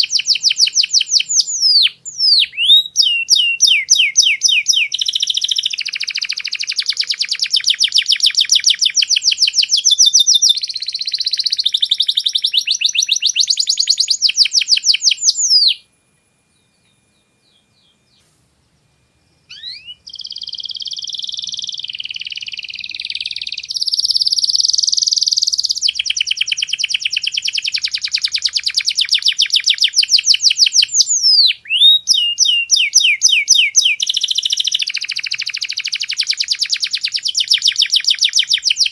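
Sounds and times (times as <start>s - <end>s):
canary singing trills: 0.0s - 15.9s, 16.5s - 38.9s.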